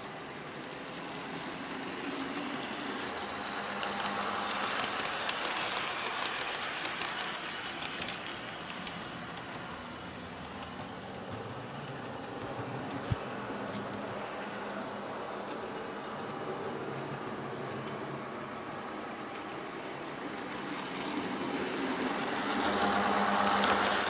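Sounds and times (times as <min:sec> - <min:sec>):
model train whirring: 0:00.0 - 0:24.0.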